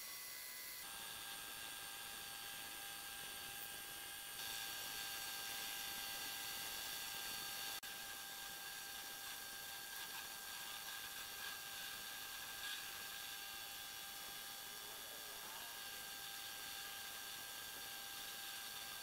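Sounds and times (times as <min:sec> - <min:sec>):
lathe motor hum and whine: 0:00.0 - 0:19.0.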